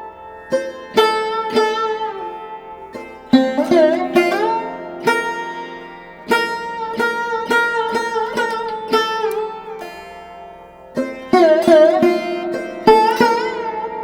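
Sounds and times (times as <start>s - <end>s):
plucked sitar-like melody: 0.0s - 14.0s.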